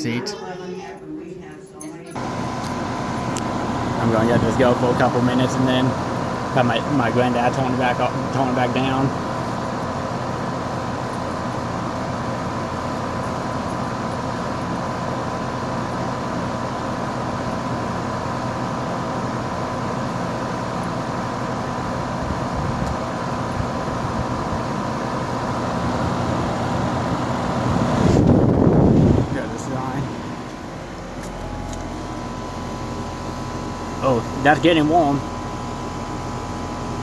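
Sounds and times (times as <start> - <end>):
heat pump humming: 0.0 - 37.0.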